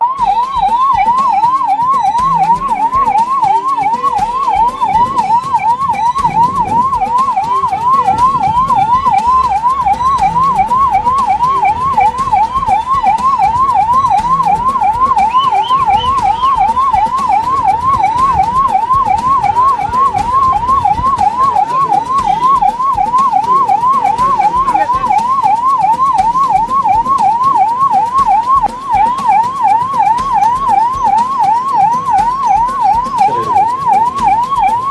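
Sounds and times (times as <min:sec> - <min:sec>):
ambulance siren: 0:00.0 - 0:34.9.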